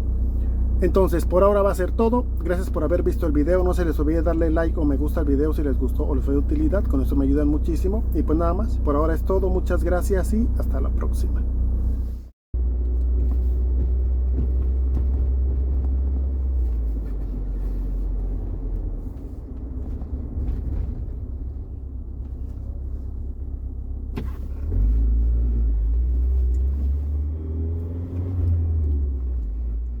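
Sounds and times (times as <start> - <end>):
truck engine rumbling: 0.0 - 30.0.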